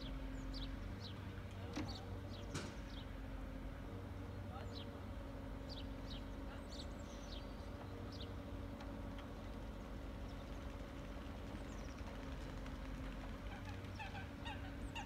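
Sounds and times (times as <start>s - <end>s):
small birds chirping: 0.0s - 3.4s, 4.1s - 15.0s
motorboat engine humming: 0.0s - 15.0s.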